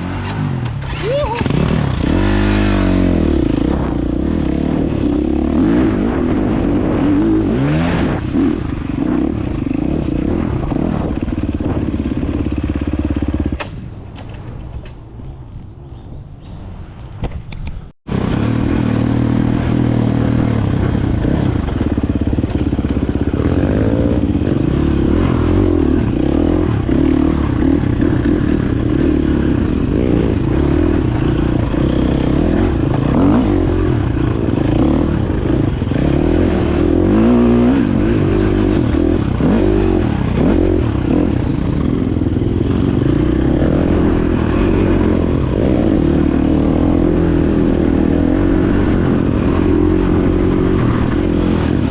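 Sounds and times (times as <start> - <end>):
dirt bike engine revving: 0.0 - 13.7, 18.1 - 51.9.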